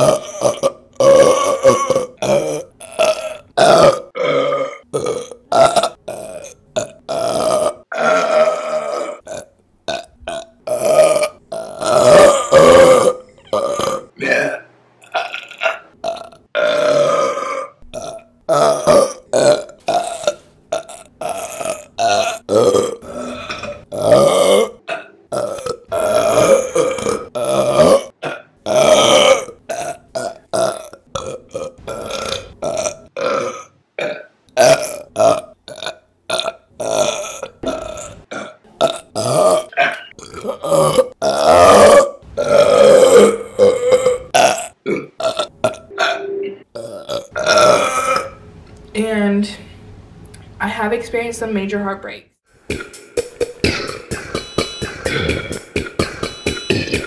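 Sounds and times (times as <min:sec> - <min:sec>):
woman burping loudly: 0:00.0 - 0:48.4, 0:53.5 - 0:57.0.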